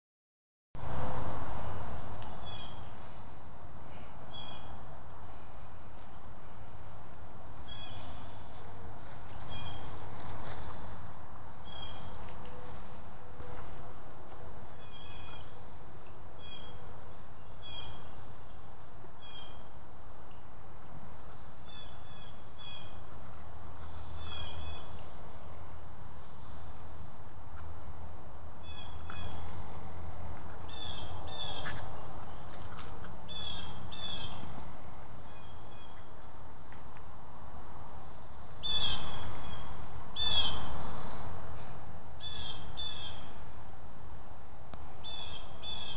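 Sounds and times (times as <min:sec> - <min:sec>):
high insect drone: 0:00.8 - 0:45.9.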